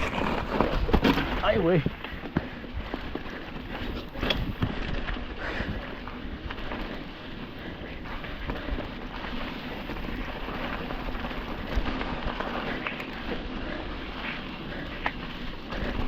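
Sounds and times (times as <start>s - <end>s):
bike rattles: 0.0s - 16.0s
bike tyres crunching on gravel: 0.0s - 16.0s.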